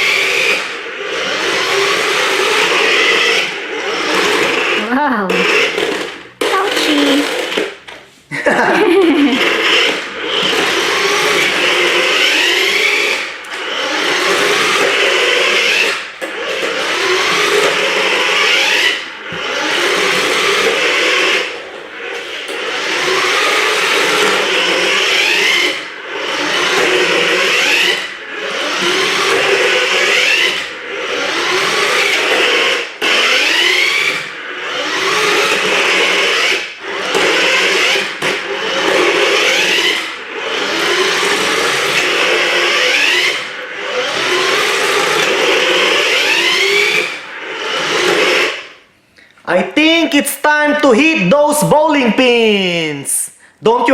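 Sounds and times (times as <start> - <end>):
toy car motor whirring: 0.0 - 8.0, 8.8 - 48.9.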